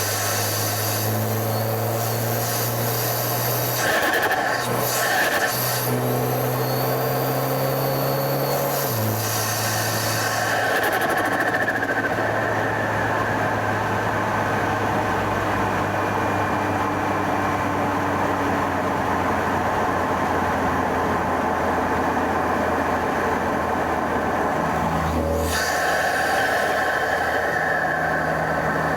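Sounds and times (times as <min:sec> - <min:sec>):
car engine running steadily: 0:00.0 - 0:28.9.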